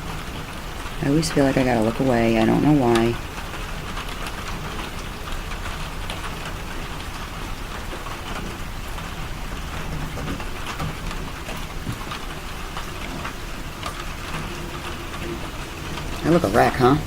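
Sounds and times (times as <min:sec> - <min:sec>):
heavy rain on a house: 0:00.0 - 0:17.0.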